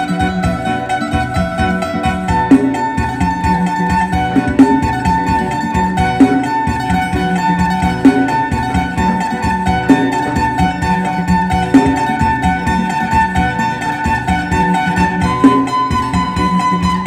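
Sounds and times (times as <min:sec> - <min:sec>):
musical backing with strong accents: 0:00.0 - 0:17.0
plucked lute playing fast tune: 0:00.0 - 0:17.0.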